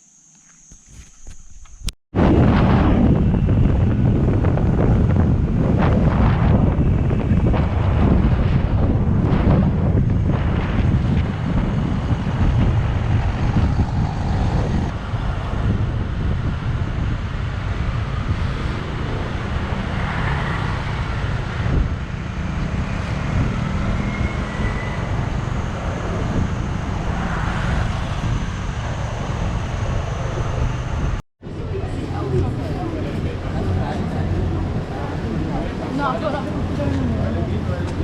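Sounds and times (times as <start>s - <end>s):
road and traffic noise: 1.6s - 38.0s.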